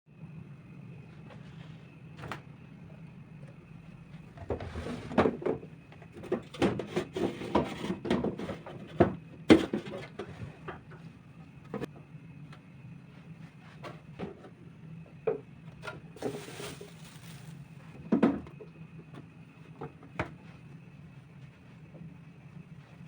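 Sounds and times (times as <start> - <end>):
steady low hum: 0.1 - 23.0.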